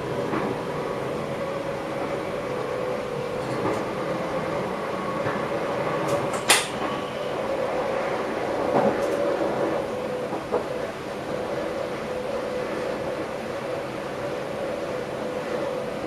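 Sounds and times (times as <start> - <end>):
train rolling noise: 0.0 - 16.0.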